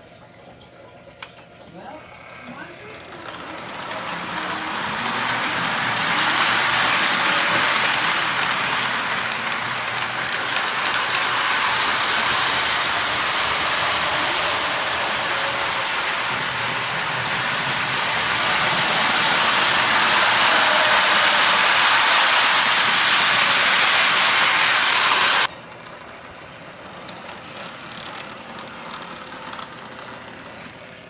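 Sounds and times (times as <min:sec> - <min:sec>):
toy train whirring on track: 0:01.8 - 0:31.0.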